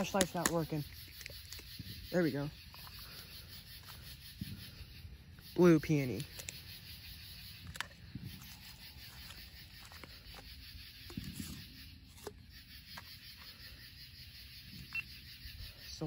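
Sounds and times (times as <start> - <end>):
rustles: 0.0 - 16.0.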